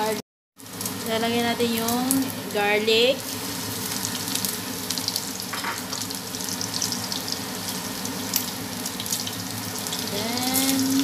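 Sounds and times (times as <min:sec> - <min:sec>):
pork and garlic sizzling in pan: 0:00.0 - 0:11.0.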